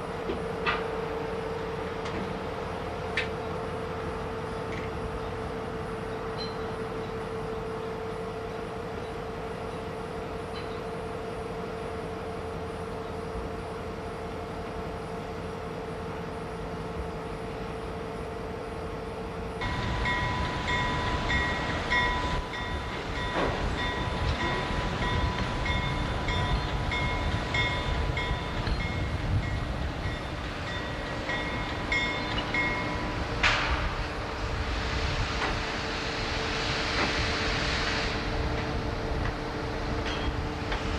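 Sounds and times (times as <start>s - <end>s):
industrial machinery hum: 0.0s - 40.9s
low rumbling machinery: 0.0s - 40.9s
steady high whine: 0.0s - 40.9s.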